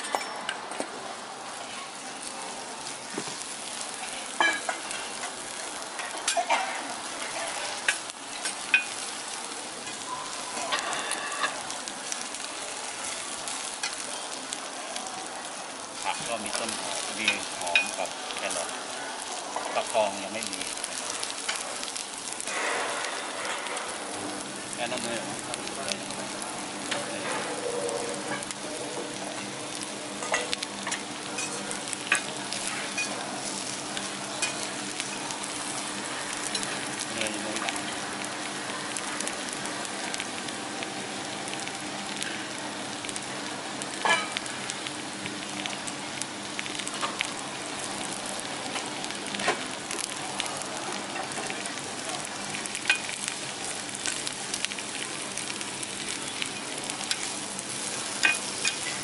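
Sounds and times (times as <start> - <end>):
vegetables sizzling on griddle: 0.0 - 59.0.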